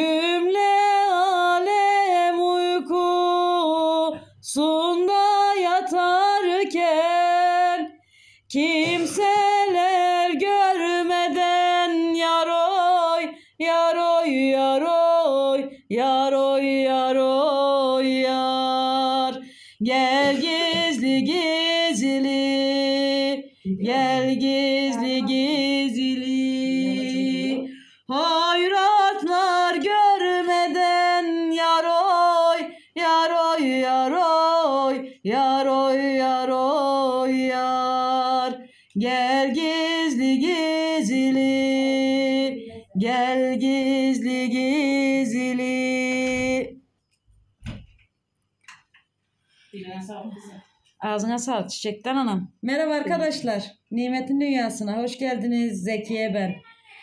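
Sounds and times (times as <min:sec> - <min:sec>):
woman singing unaccompanied: 0:00.0 - 0:46.8.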